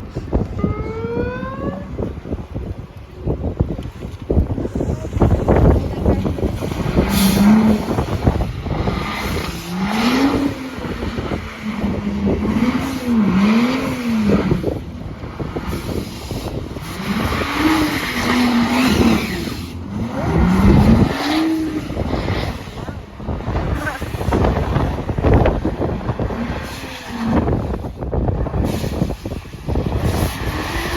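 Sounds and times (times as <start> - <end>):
car engine revving hard: 4.8 - 30.9.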